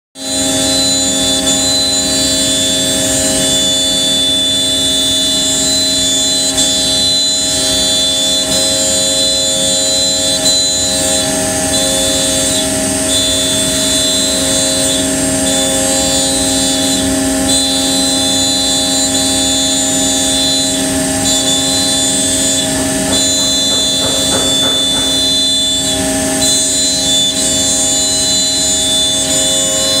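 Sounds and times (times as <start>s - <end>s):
router spindle milling whine: 0.2s - 30.0s.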